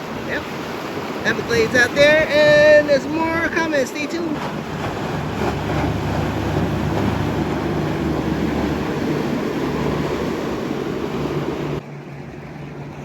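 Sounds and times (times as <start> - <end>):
wind on microphone: 0.0 - 11.8
boat motor droning: 0.0 - 13.0
water washing: 0.0 - 13.0.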